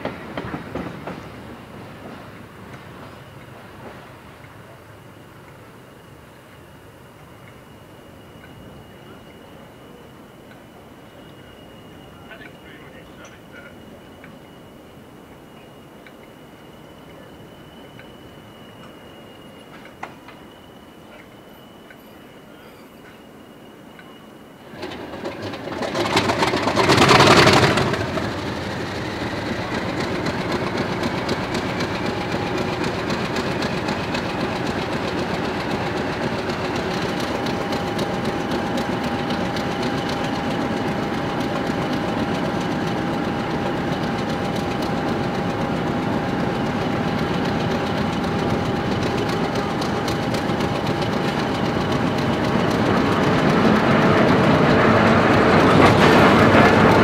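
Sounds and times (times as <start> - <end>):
train wheels clattering over track: 0.0 - 5.8, 7.2 - 14.6, 15.3 - 23.3, 24.0 - 57.0
diesel locomotive engine drone: 0.0 - 57.0.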